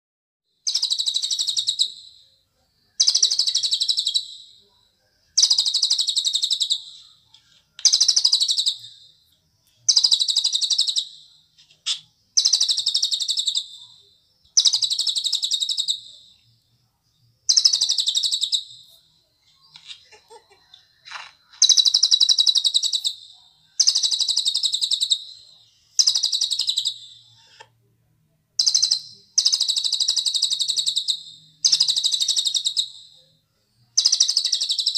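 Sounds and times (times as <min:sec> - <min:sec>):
bird singing trilled phrases: 0:00.6 - 0:02.3, 0:02.9 - 0:04.7, 0:05.4 - 0:09.2, 0:09.9 - 0:16.5, 0:17.5 - 0:20.5, 0:21.5 - 0:27.4, 0:28.6 - 0:33.3, 0:34.0 - 0:34.9.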